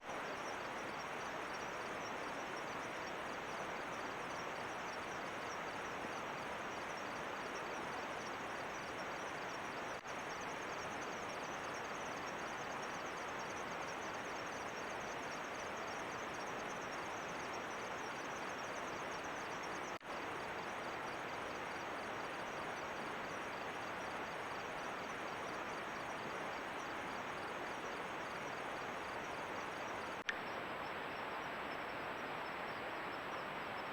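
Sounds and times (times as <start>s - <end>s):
crickets chirping: 0.0s - 33.9s
outdoor background hiss: 0.0s - 33.9s.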